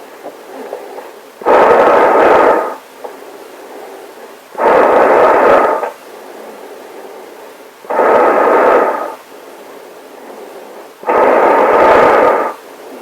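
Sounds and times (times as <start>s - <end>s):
faint hiss: 0.0s - 13.0s
breathing through gas mask: 0.5s - 2.8s, 3.7s - 9.3s, 10.2s - 13.0s.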